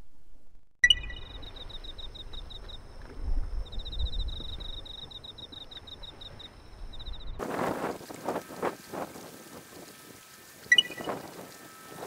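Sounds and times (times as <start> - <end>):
insect chirping: 0.8 - 9.9, 10.6 - 12.0.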